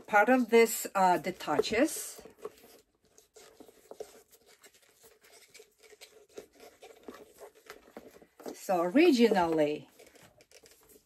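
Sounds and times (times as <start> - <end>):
bag strap rustling and clicking: 1.4 - 11.0.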